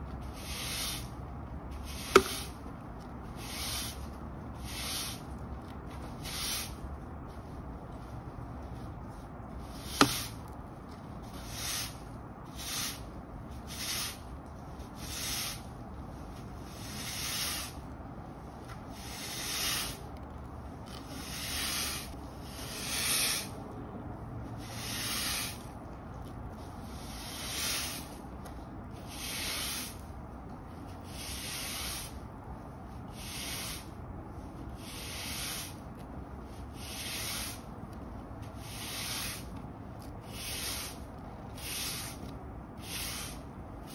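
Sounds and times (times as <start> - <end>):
push broom sweeping concrete: 0.2 - 7.6, 8.7 - 23.7, 24.6 - 43.9.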